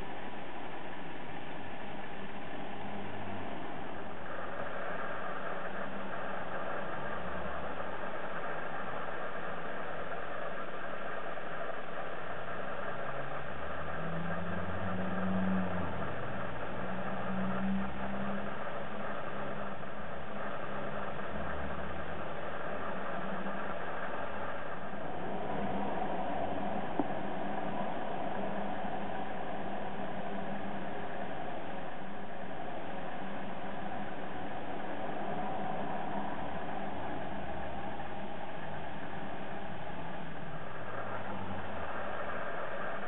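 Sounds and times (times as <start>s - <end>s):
road traffic rumble: 0.0s - 43.0s
steady hiss: 0.0s - 43.0s.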